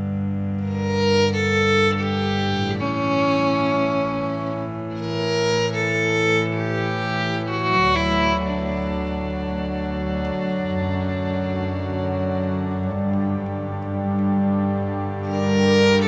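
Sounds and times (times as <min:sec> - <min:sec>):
slow background music melody: 0:00.0 - 0:16.0.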